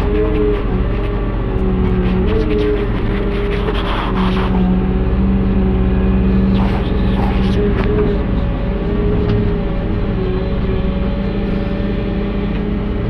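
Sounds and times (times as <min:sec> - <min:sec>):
excavator diesel engine: 0:00.0 - 0:13.0
hydraulics whining: 0:00.0 - 0:13.0.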